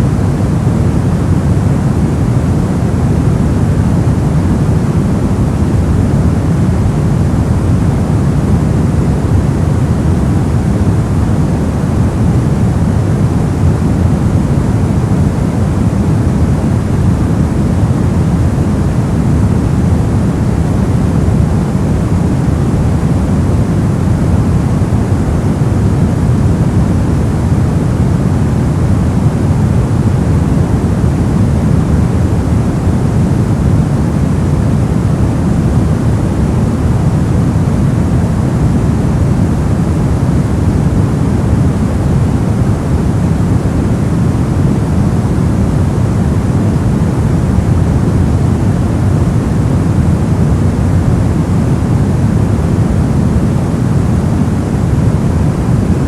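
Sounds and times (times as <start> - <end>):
deep rushing white noise: 0.0 - 56.0.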